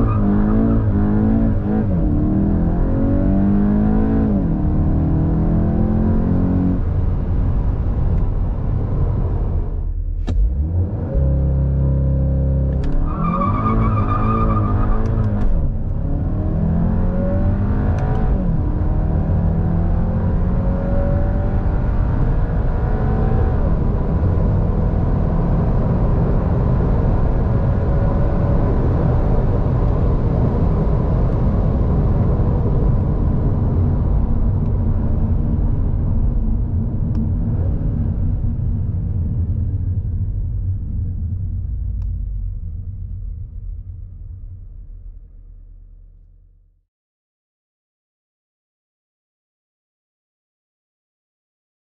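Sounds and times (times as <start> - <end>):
road noise: 0.0 - 44.9
car engine accelerating: 0.0 - 46.7.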